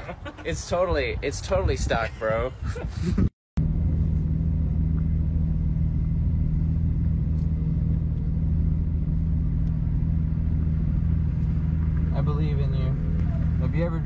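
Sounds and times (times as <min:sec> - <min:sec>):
race car engine rumble: 0:00.0 - 0:14.0.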